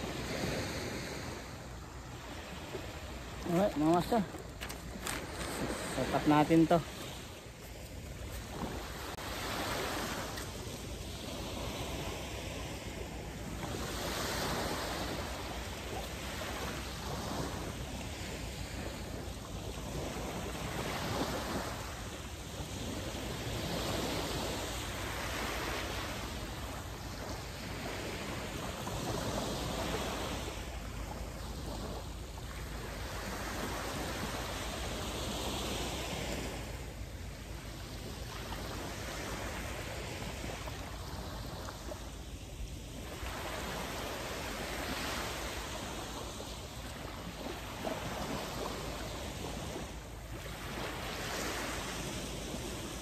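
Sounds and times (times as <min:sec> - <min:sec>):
small waves washing on sand: 0:00.0 - 0:53.0.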